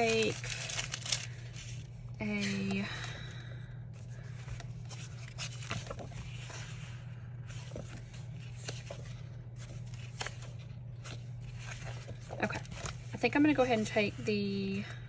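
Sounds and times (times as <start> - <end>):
paper pages flipping: 0.0 - 3.1, 4.0 - 14.9
steady low hum: 0.0 - 15.0.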